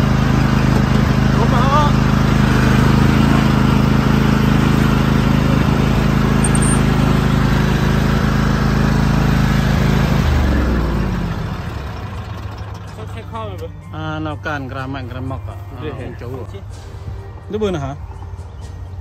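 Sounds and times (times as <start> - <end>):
riding mower engine running: 0.0 - 15.3.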